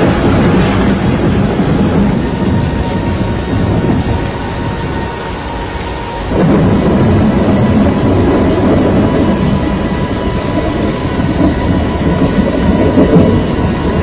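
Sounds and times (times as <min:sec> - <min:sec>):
roaring tornado wind: 0:00.0 - 0:14.0.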